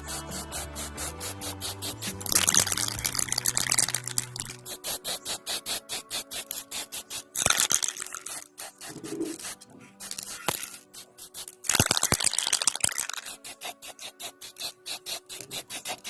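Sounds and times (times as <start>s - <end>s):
spray hiss: 0.0s - 12.2s, 13.0s - 16.0s
spray can rattling: 0.0s - 16.0s.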